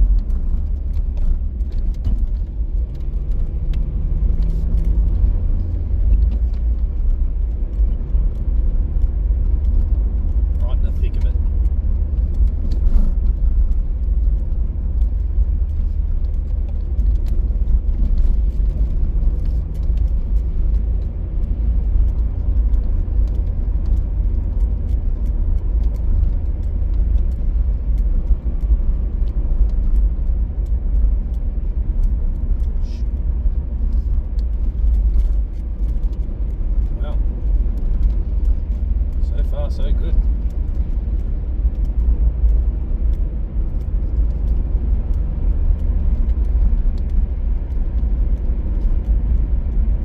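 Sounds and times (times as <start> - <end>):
car road and wind rumble: 0.0 - 50.0.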